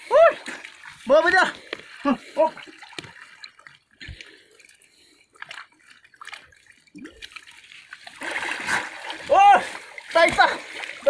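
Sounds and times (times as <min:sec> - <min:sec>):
water drips and light splashes: 0:00.0 - 0:11.0.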